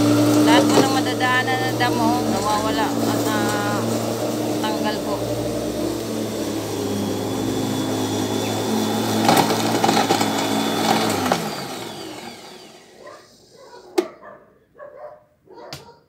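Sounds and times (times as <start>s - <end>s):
electric lawn mower cutting grass: 0.0s - 13.5s.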